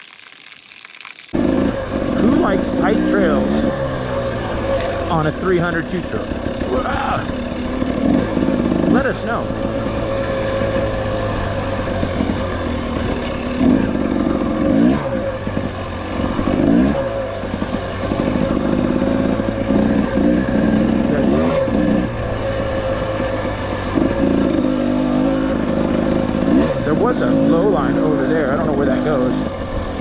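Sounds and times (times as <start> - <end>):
two-stroke dirt bike engine revving: 1.3 - 30.0.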